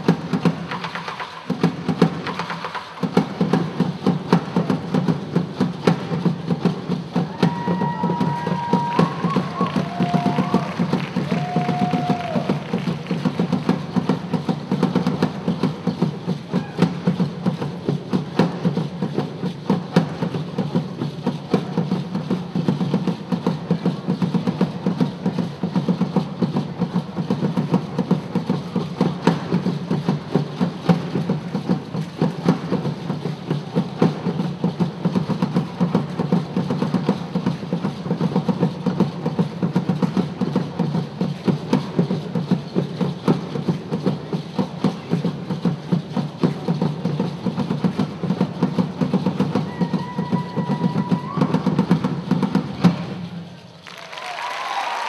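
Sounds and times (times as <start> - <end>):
hand drums ensemble: 0.0 - 55.0.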